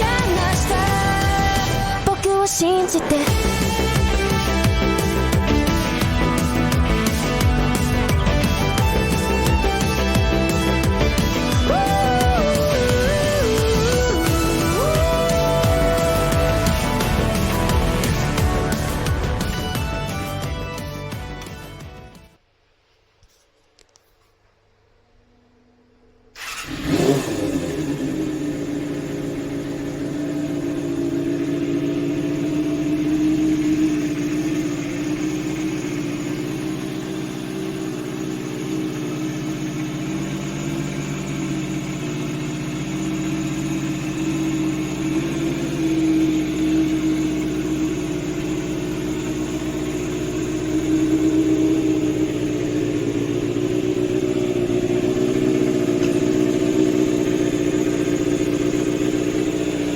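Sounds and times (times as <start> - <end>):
motorcycle engine running: 0.0 - 22.1, 26.4 - 59.9.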